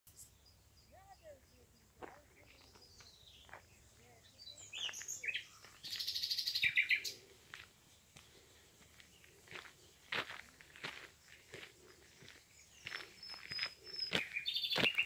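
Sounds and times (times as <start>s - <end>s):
songbird chirping and trilling: 0.1s - 15.0s.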